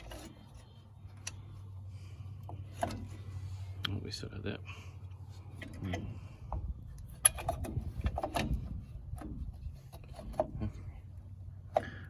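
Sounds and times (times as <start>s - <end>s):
brake springs scraping: 0.0s - 3.8s, 4.9s - 12.0s.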